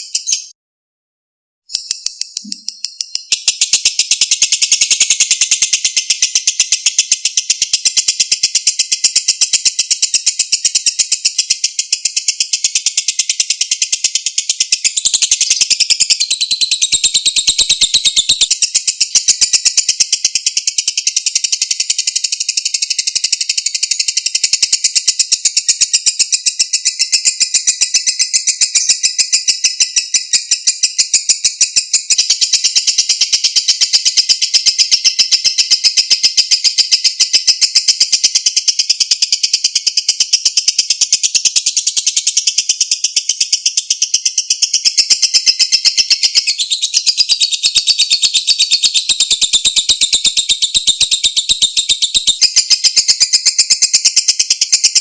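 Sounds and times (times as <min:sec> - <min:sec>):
lovebird rapid chatter: 0:00.0 - 0:00.5, 0:01.7 - 0:55.0.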